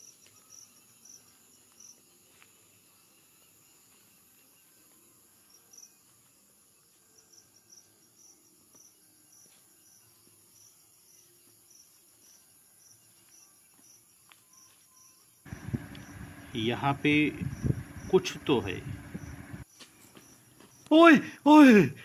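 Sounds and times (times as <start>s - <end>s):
cricket chirping: 0.0s - 20.9s.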